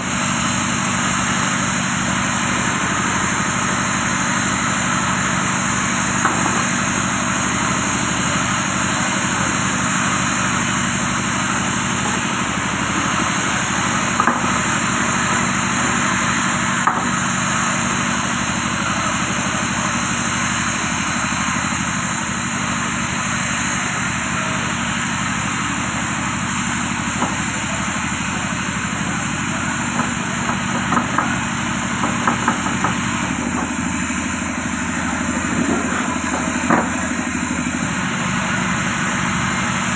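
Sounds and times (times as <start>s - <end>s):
machine humming: 0.0s - 39.9s.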